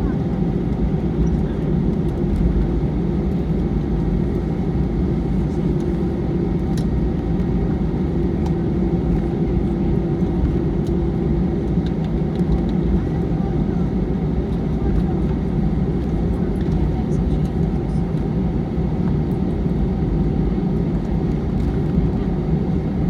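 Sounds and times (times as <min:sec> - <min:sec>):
airplane cabin engine drone: 0:00.0 - 0:23.0.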